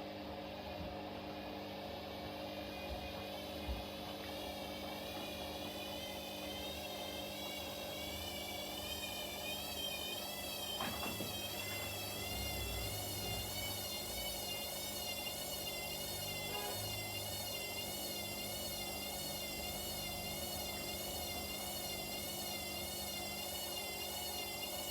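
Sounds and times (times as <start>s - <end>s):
washing machine motor whine: 0.0s - 24.9s.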